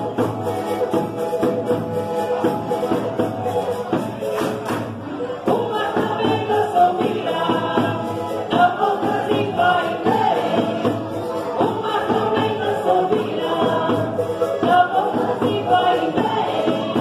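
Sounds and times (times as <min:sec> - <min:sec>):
steady percussion beat: 0:00.0 - 0:17.0
group of voices singing: 0:02.4 - 0:17.0.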